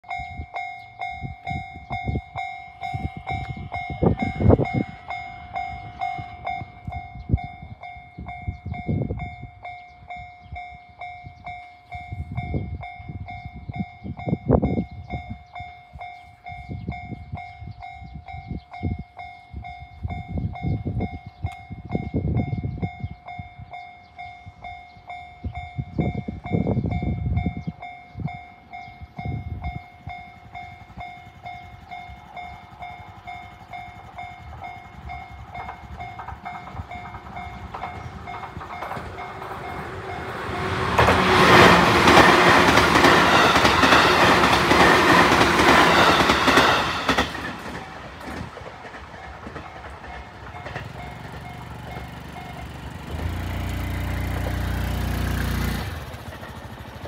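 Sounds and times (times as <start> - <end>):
level crossing alarm ringing: 0.0 - 12.8, 15.7 - 53.1
train passing with clattering wheels: 0.0 - 57.0.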